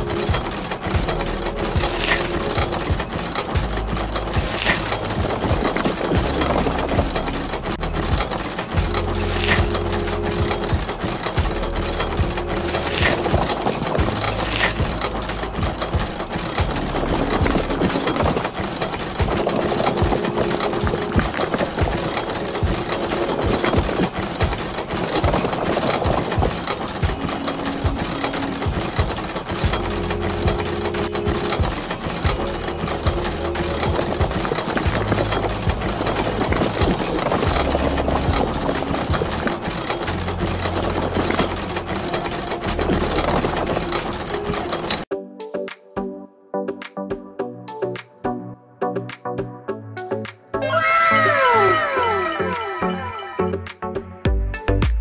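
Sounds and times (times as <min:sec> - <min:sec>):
motorized sieve rattling: 0:00.0 - 0:45.1, 0:50.7 - 0:53.1.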